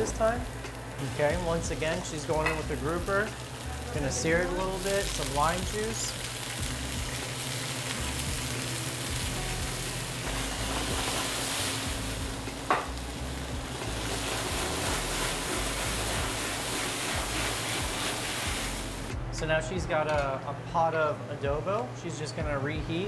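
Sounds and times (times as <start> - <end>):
fish sizzling in a frying pan: 0.0 - 19.1.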